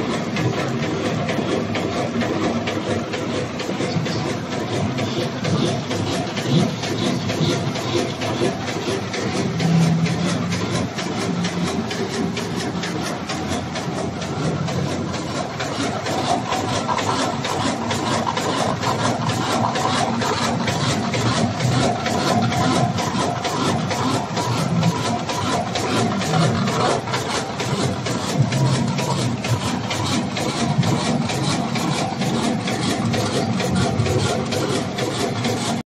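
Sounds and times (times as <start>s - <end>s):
rapid mechanical clatter: 0.0s - 35.8s
steady machine hum: 0.0s - 35.8s.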